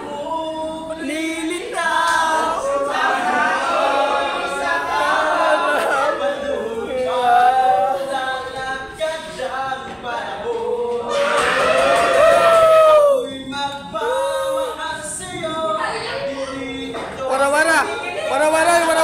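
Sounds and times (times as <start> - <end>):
man singing a cappella: 0.0 - 19.0.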